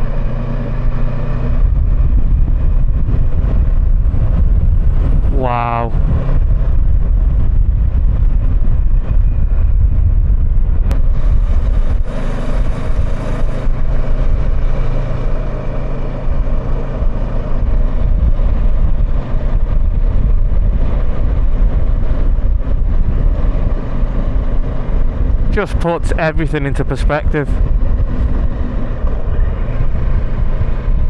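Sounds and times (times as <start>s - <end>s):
motorcycle engine running: 0.0s - 26.4s, 27.0s - 31.0s
wind rumble on microphone: 0.0s - 31.0s.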